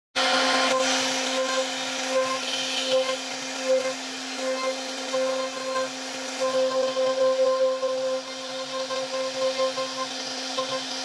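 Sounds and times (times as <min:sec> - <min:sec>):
bit cutting wood: 0:00.2 - 0:11.0
router spindle whine: 0:00.2 - 0:11.0.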